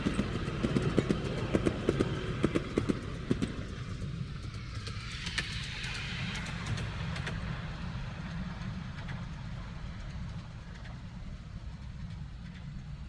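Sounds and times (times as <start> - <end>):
miniature train rumbling on track: 0.0 - 13.0.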